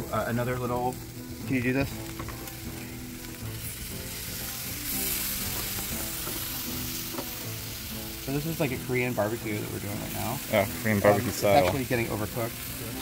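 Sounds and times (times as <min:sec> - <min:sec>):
meat sizzling on a charcoal grill: 0:00.0 - 0:13.0.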